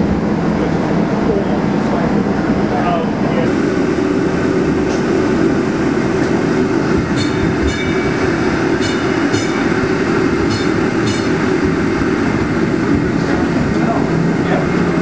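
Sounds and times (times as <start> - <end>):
streetcar running noise: 0.0 - 15.0.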